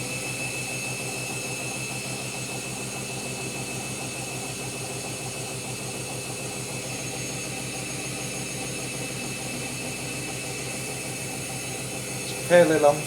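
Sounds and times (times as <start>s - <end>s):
washing machine motor whine: 0.0s - 13.0s.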